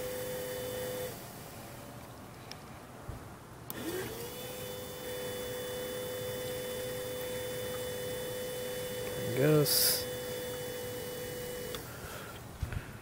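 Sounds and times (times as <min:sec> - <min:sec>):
electric pump whine: 0:00.0 - 0:02.0, 0:03.7 - 0:13.0.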